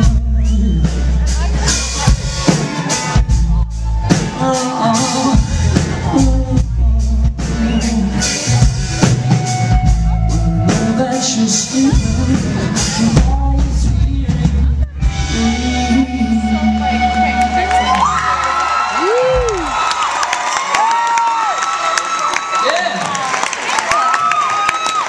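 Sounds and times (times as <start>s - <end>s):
live rock band playing: 0.0s - 20.6s.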